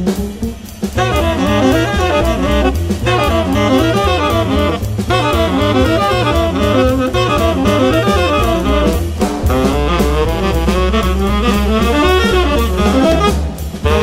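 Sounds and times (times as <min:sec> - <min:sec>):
double bass: 0:00.0 - 0:14.0
drum kit with cymbals: 0:00.0 - 0:14.0
tenor saxophone playing fast lines: 0:00.0 - 0:14.0.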